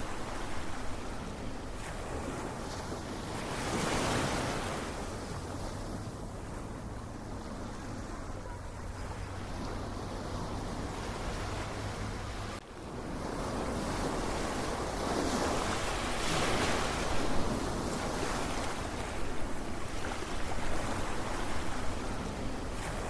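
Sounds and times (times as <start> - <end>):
ocean waves washing in: 0.0 - 23.0.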